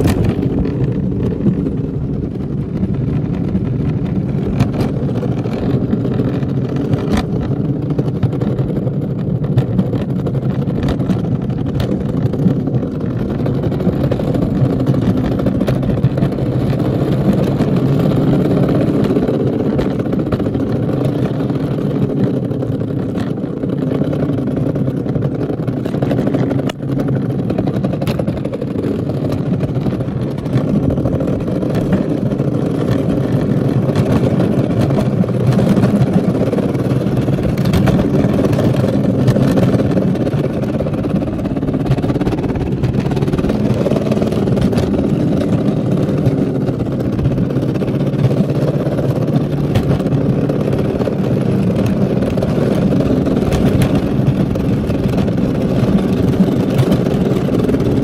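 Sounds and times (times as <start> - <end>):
wheels rolling on concrete: 0.0 - 58.0.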